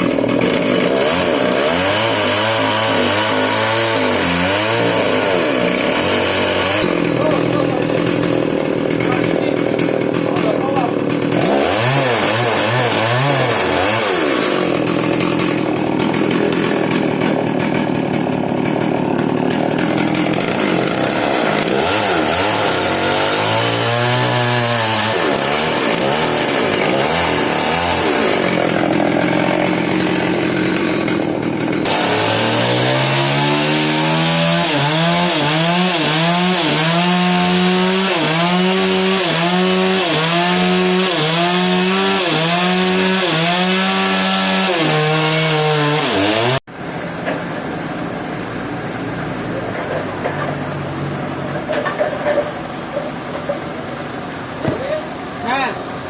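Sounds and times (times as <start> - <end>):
chainsaw cutting wood: 0.0 - 46.7.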